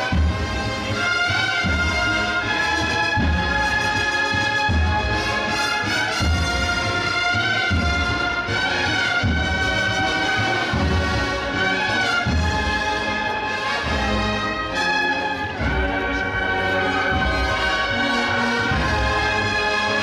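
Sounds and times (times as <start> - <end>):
brass band playing a march: 0.0 - 20.0
low drum beats: 0.0 - 20.0.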